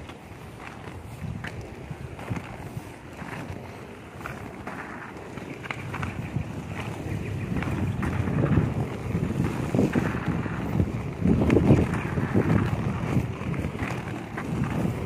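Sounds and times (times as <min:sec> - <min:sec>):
skate wheels rolling on concrete: 0:00.0 - 0:15.0
wind buffeting microphone: 0:00.0 - 0:15.0.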